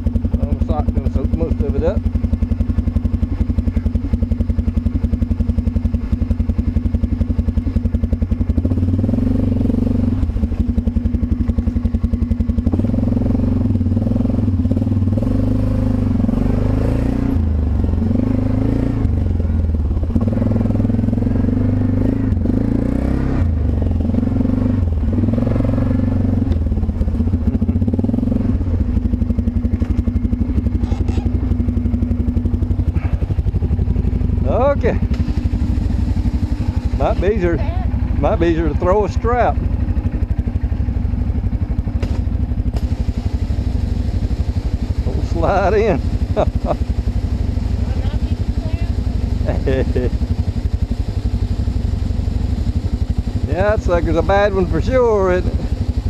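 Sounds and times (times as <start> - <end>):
atv engine idling and revving: 0.0 - 56.0.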